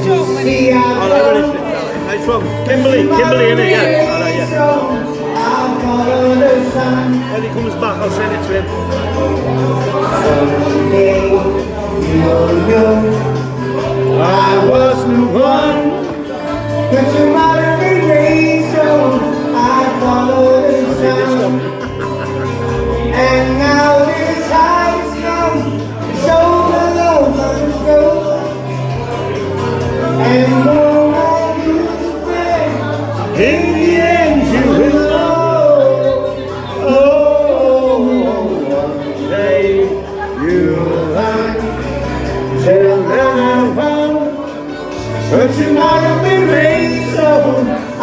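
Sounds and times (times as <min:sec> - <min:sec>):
backing track through speakers: 0:00.0 - 0:48.0
bass line: 0:00.0 - 0:48.0
man singing into a microphone: 0:00.0 - 0:48.0.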